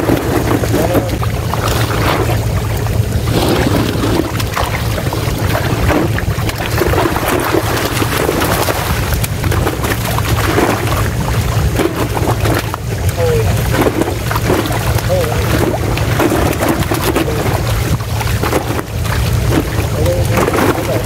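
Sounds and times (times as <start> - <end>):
fish splashing in water: 0.0 - 21.0
steady low drone: 0.0 - 21.0
wind on microphone: 0.0 - 21.0.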